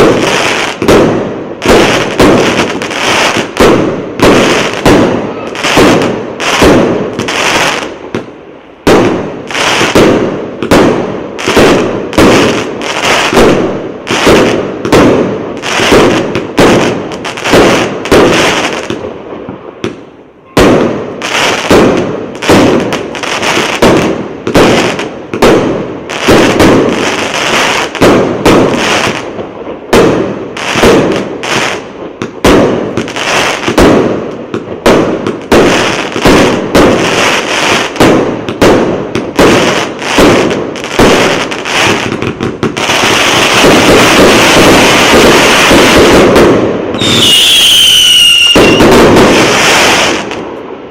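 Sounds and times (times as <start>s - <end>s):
fireworks crackling: 0.0s - 50.9s
fireworks shots and bursts: 0.0s - 50.9s.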